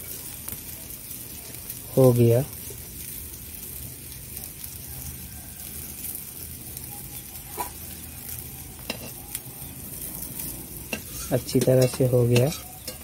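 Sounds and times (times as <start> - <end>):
fritters sizzling in hot oil: 0.0 - 13.0.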